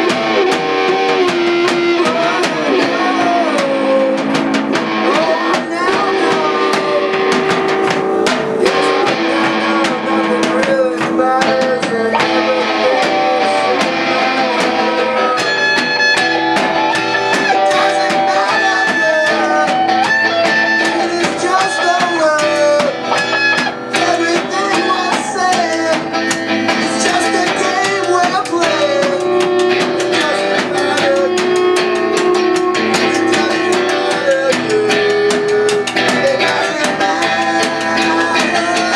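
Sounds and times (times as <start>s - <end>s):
drum kit: 0.0s - 38.9s
electric guitar: 0.0s - 38.9s
keyboard: 0.0s - 38.9s
person singing into microphone: 0.0s - 38.9s.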